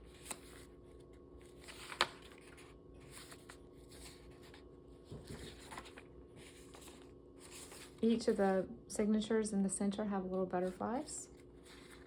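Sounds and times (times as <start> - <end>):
paper pages rustling: 0.0 - 8.4, 10.6 - 12.0.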